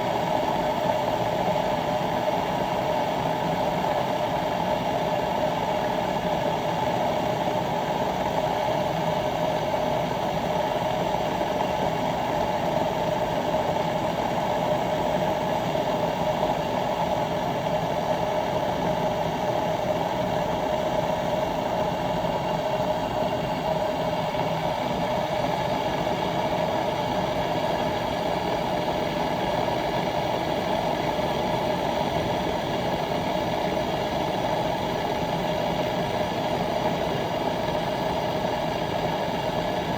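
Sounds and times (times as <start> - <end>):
electric kettle heating water: 0.0 - 39.9.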